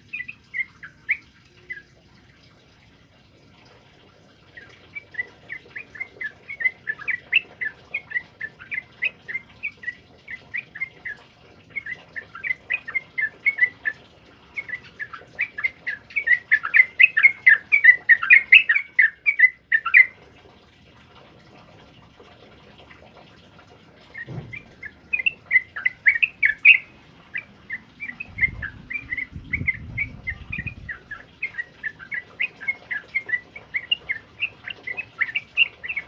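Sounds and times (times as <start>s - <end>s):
bird singing chirping notes: 0.0s - 2.0s, 4.5s - 20.2s, 24.1s - 36.0s.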